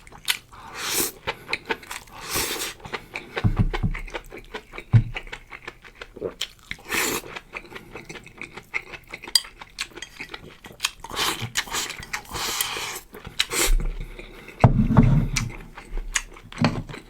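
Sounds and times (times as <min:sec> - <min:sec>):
chewing and eating: 0:00.0 - 0:17.0.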